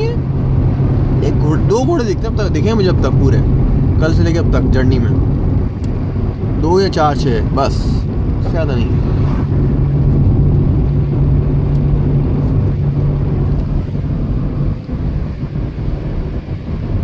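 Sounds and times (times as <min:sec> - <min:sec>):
engine and tyre rumble: 0:00.0 - 0:17.0
low hum: 0:00.0 - 0:17.0.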